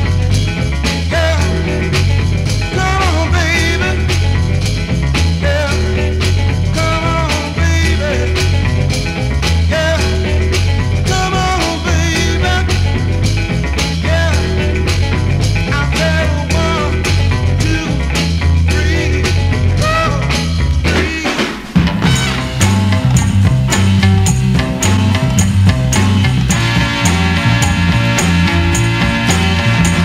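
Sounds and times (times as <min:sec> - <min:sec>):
heavy bass line: 0:00.0 - 0:21.2, 0:21.8 - 0:30.0
funk record playing: 0:00.0 - 0:30.0.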